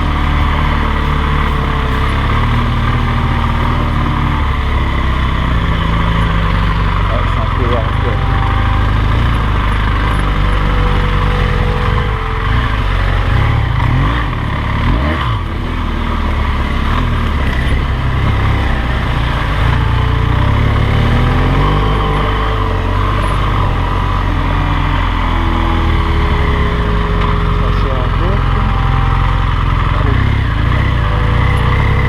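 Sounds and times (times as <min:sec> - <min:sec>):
motorcycle engine running: 0:00.0 - 0:32.0
steady rushing noise: 0:00.0 - 0:32.0.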